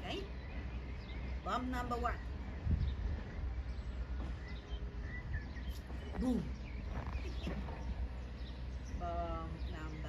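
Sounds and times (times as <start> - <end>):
small birds chirping: 0.0 - 10.0
steady low rumble: 0.0 - 10.0.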